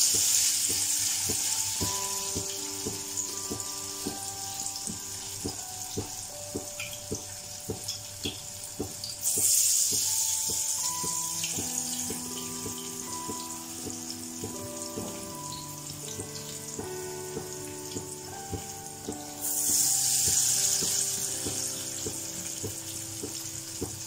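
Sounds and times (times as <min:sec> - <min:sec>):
batter sizzling in hot oil: 0:00.0 - 0:24.0.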